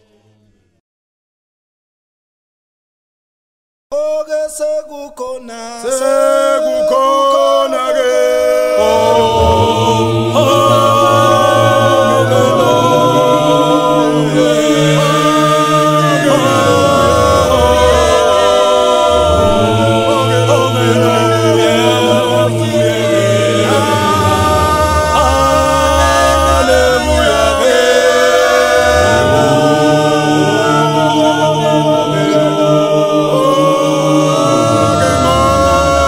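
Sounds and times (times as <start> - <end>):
gospel choir singing a cappella: 4.0 - 36.0.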